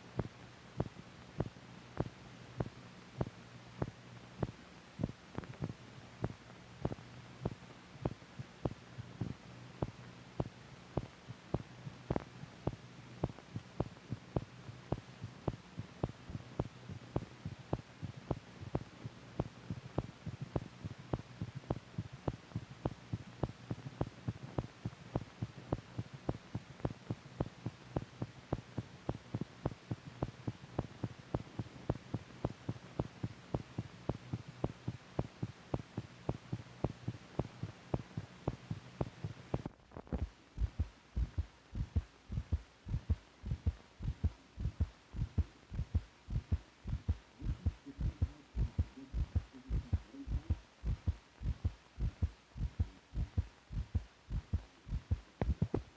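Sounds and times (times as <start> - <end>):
steady hum: 0.0 - 55.9
quick regular heartbeat: 0.2 - 55.9.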